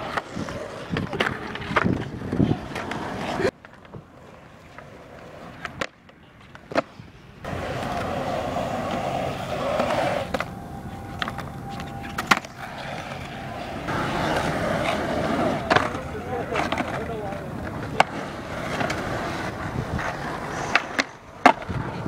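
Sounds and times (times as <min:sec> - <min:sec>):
skateboard clacks: 0:00.0 - 0:22.0
skateboard wheels rolling on concrete: 0:00.0 - 0:22.0.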